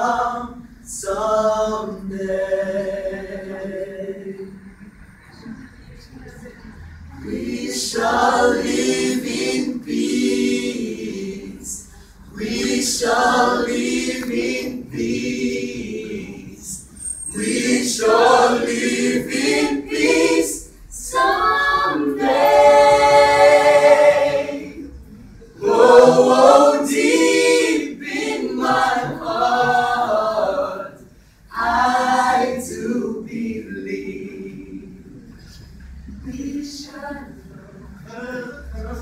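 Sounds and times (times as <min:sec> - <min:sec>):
choir singing: 0:00.0 - 0:04.9, 0:07.1 - 0:35.3.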